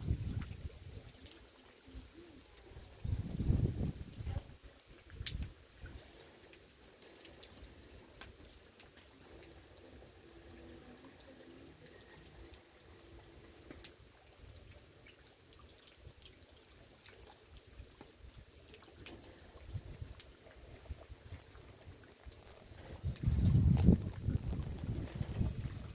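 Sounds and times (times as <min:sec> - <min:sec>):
wet fire crackling: 0:00.0 - 0:15.8, 0:16.5 - 0:25.9
raindrops dripping: 0:00.0 - 0:25.9.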